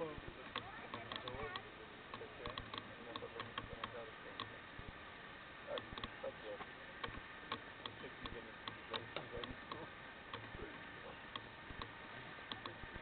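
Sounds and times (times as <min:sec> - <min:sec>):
faint muffled voices: 0:00.0 - 0:05.0, 0:05.6 - 0:13.0
low hiss and hum: 0:00.0 - 0:13.0
faint sharp clicks: 0:00.5 - 0:04.6, 0:05.7 - 0:10.5, 0:11.3 - 0:12.9.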